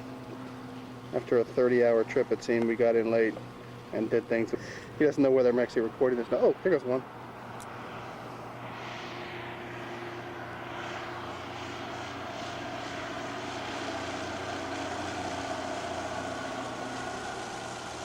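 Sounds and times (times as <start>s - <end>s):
propeller plane droning past: 0.0s - 18.0s.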